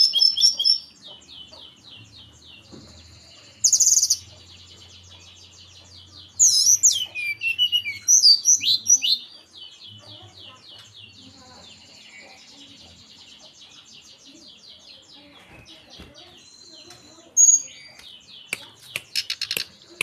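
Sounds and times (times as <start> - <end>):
bird singing high chirps: 0.0 - 20.0.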